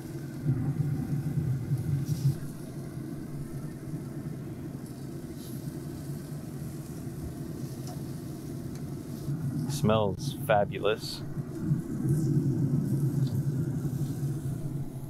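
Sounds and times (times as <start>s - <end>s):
grill fan humming: 0.0s - 15.0s.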